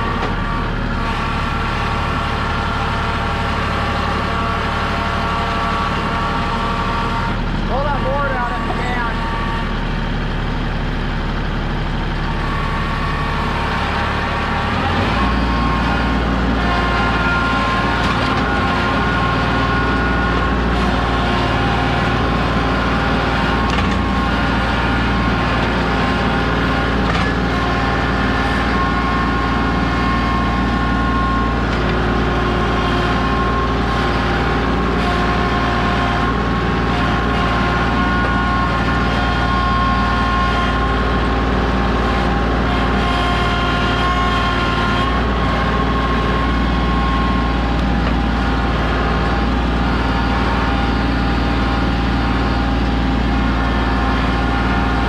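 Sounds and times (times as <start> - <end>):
steady whine: 0.0 - 55.0
tractor diesel engine running: 0.0 - 55.0.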